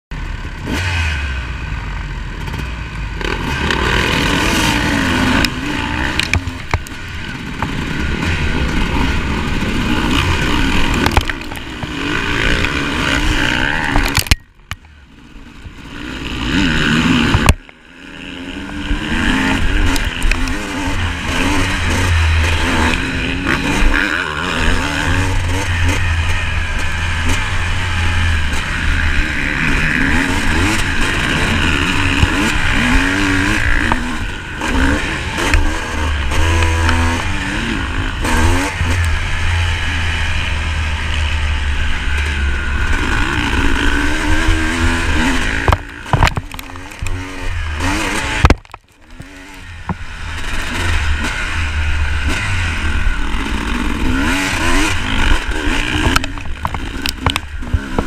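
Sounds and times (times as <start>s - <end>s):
other dirt bikes racing: 0.1s - 58.0s
motocross bike revving hard: 0.2s - 58.0s.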